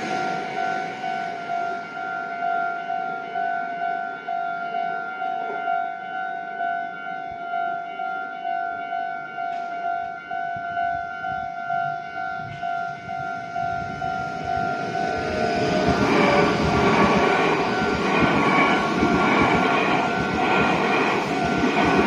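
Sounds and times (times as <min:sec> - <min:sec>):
level crossing alarm bell: 0:00.0 - 0:22.0.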